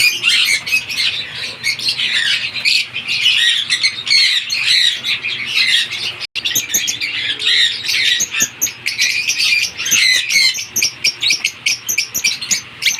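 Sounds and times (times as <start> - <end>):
lovebirds chattering: 0.0 - 12.9.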